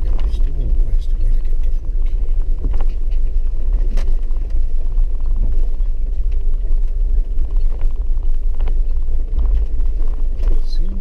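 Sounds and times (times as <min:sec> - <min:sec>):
vehicle cabin low rumble: 0:00.0 - 0:11.0.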